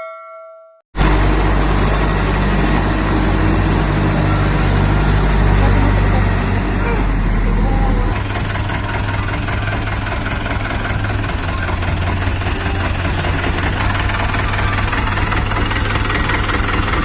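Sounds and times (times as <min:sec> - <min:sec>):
diesel truck engine idling: 0:01.0 - 0:17.0.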